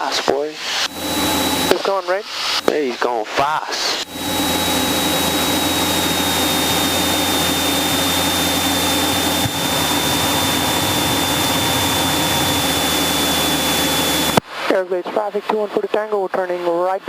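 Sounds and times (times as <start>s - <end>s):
aircraft engine droning: 0.0s - 14.4s
thin high whine: 0.0s - 14.4s.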